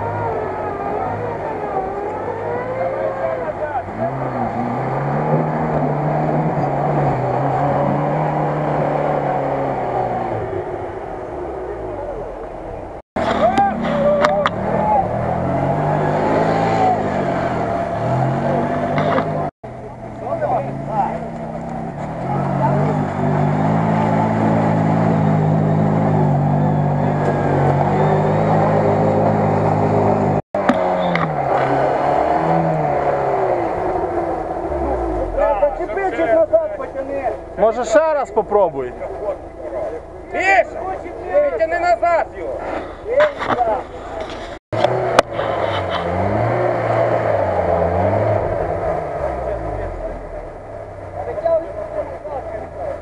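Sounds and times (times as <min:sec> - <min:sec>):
utility vehicle engine under load: 0:00.0 - 0:53.0.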